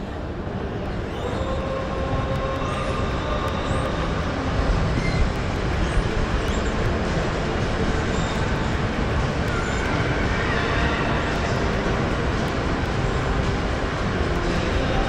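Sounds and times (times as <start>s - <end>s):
metro train rumble: 0.0s - 15.0s
thin whine: 0.0s - 15.0s.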